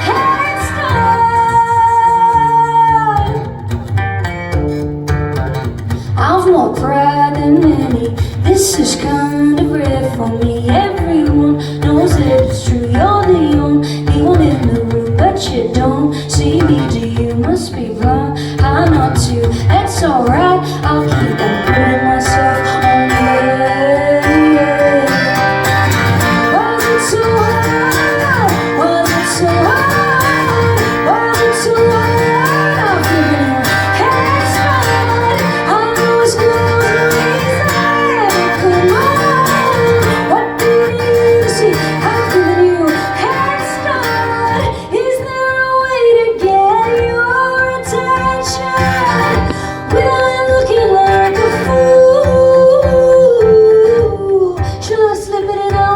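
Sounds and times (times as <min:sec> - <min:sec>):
live band playing pop-rock: 0:00.0 - 0:55.9
woman singing: 0:00.0 - 0:55.9.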